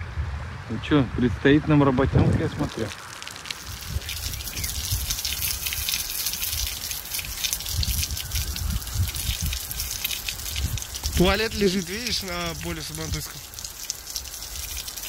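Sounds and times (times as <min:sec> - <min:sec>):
rain pattering: 0:02.4 - 0:15.0.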